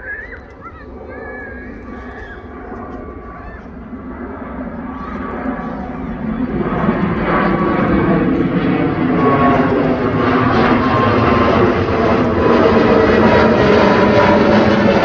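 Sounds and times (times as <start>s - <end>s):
jet airliner passing overhead: 0.0s - 15.0s
jet engine whining tones: 0.0s - 15.0s.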